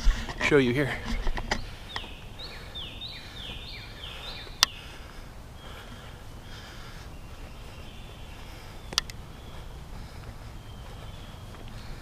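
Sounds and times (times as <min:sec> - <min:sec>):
steady low rumble: 0:00.0 - 0:12.0
bird calling downslurred notes: 0:00.8 - 0:12.0.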